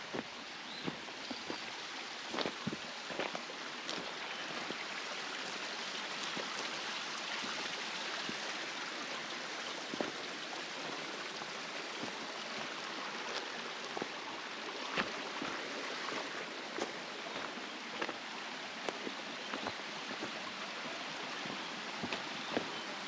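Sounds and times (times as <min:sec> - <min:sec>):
rushing stream water: 0:00.0 - 0:23.0.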